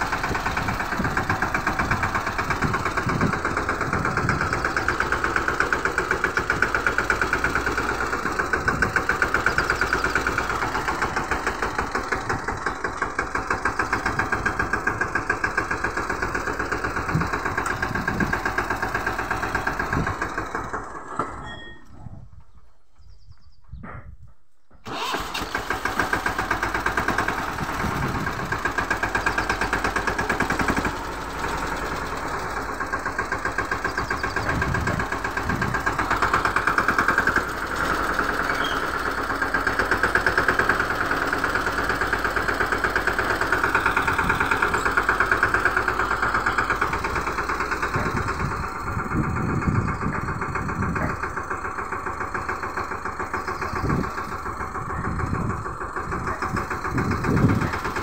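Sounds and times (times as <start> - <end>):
tractor diesel engine chugging: 0.0 - 58.0.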